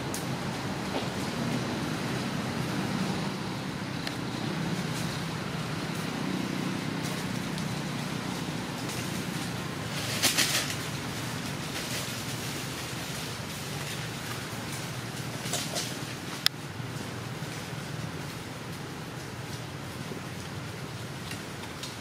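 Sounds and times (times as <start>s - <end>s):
low background rumble: 0.0s - 21.8s
rustling crackle: 0.0s - 22.0s.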